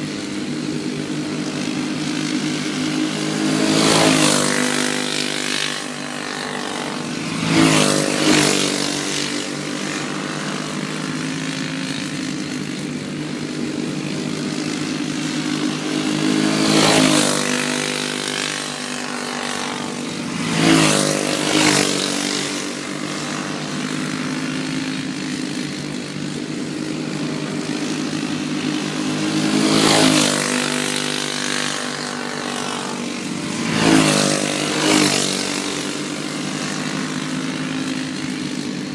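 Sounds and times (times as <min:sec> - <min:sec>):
go-kart engines racing: 0:00.0 - 0:38.9
karts passing close by: 0:00.0 - 0:38.9.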